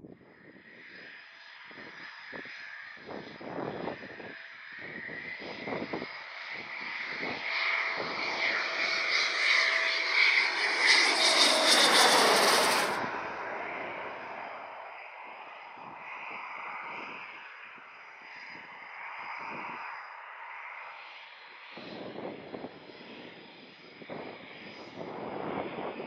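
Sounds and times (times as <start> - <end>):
jet engines passing with whine: 0.0 - 26.0.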